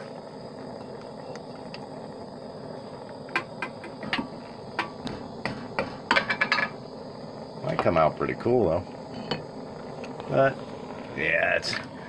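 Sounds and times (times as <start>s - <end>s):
melting furnace hissing: 0.0s - 12.0s.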